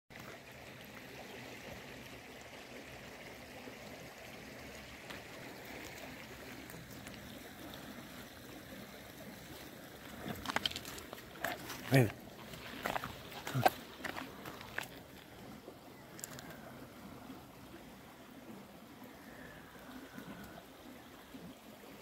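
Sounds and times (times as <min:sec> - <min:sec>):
stream running over stones: 0:00.1 - 0:22.0.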